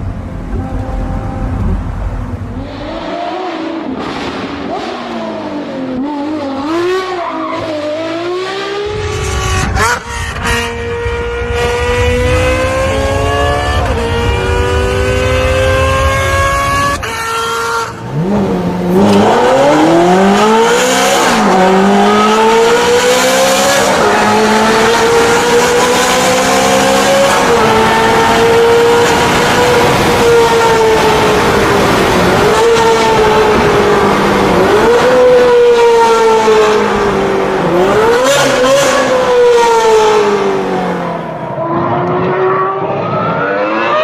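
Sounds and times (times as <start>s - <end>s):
car engine accelerating hard: 0.0s - 44.0s.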